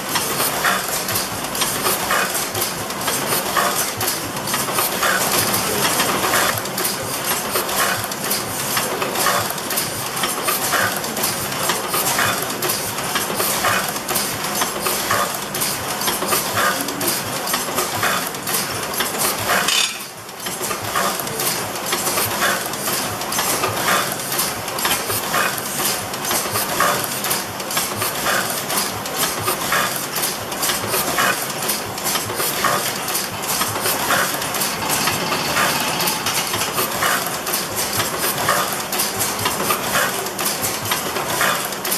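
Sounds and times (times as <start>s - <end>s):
printing presses clattering: 0.0s - 41.9s.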